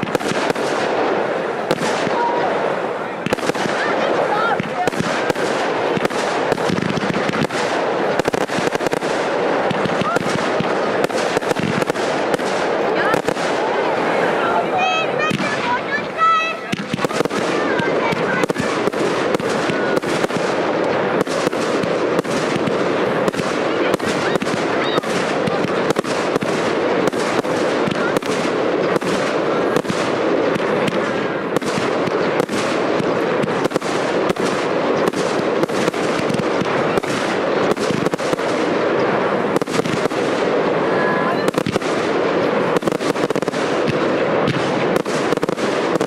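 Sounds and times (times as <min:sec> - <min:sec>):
fireworks crackling and banging: 0:00.0 - 0:46.0.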